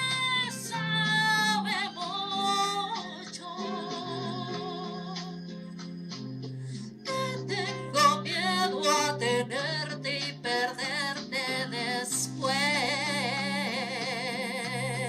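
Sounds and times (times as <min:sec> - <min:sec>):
woman singing into a microphone: 0:00.0 - 0:05.5, 0:07.1 - 0:15.0
instrumental accompaniment: 0:00.0 - 0:15.0.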